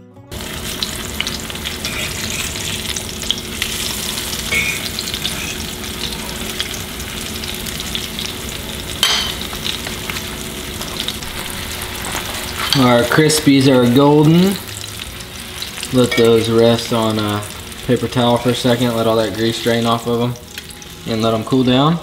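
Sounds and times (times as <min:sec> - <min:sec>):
fish frying in oil: 0:00.3 - 0:21.7.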